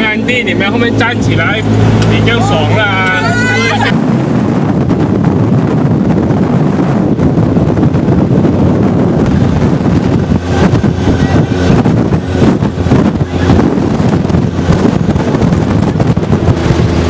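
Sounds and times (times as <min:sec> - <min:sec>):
off-road vehicle engine running: 0:00.0 - 0:17.0
wind buffeting microphone: 0:00.0 - 0:17.0.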